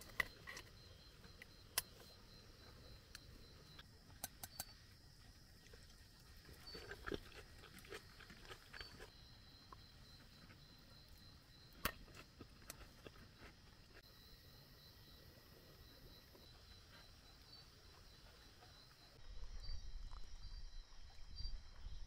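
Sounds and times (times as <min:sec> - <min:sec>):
quiet chewing: 0:00.0 - 0:14.1, 0:15.6 - 0:20.3.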